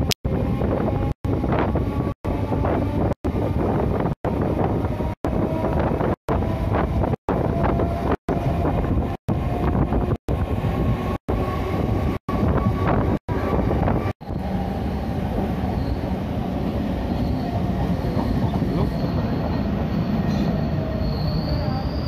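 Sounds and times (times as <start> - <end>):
wind on microphone: 0.0 - 19.4
train rumble: 0.0 - 22.0.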